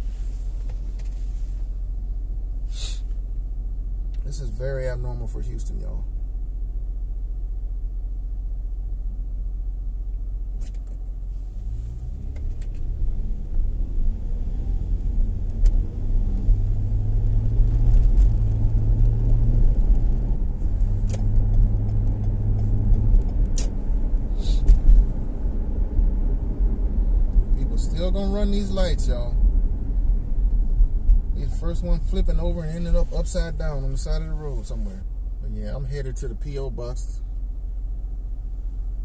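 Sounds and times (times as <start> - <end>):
car engine hum from inside: 0.0 - 39.0.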